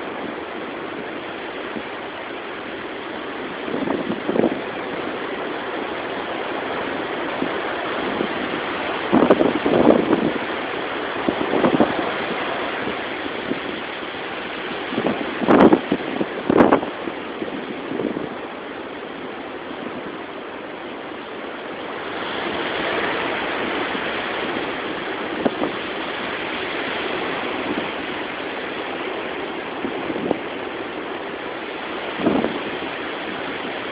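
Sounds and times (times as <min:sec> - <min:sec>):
wind and rain rushing: 0:00.0 - 0:33.9.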